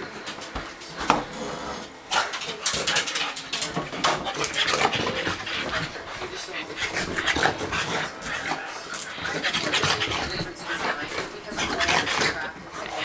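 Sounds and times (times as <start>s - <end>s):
dog scuffling and rustling: 0.3s - 13.0s.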